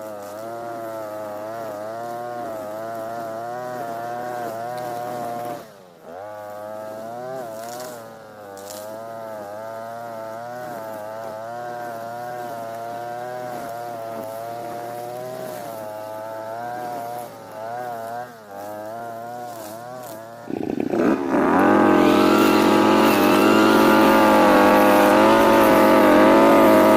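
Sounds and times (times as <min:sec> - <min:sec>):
brush cutter engine revving: 0:00.0 - 0:26.9.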